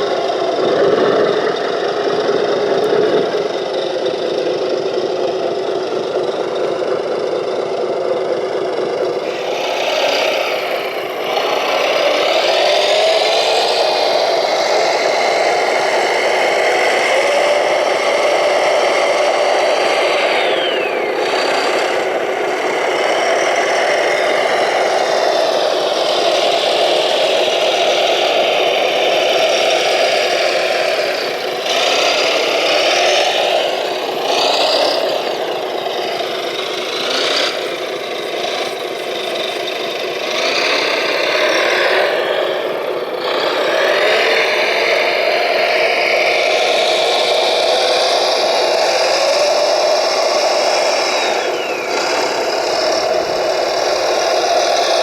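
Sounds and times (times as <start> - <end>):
electric motors whirring: 0.0 - 55.0.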